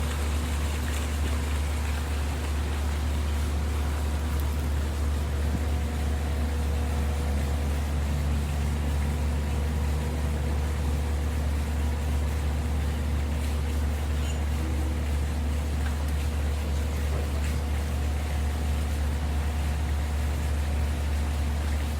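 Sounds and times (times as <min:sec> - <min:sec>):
constant low hum: 0:00.0 - 0:21.9
falling water from fountain: 0:00.0 - 0:21.9.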